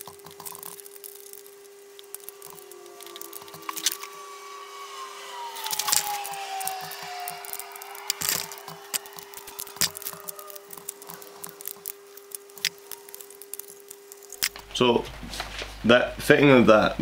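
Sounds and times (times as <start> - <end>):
steady tone: 0.0 - 14.6
slowly falling tone: 0.6 - 14.5.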